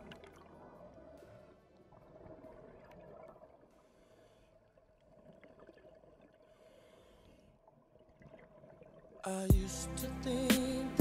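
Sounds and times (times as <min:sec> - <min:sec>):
faint underwater gurgling: 0:00.0 - 0:09.5.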